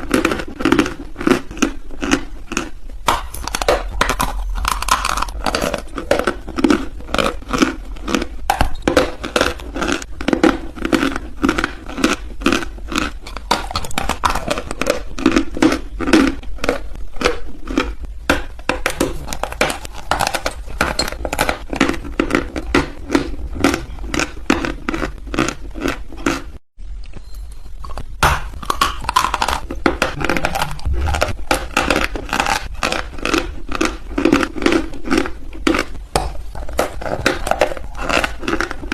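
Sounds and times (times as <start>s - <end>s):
chewing crunchy chalk: 0.0s - 38.9s.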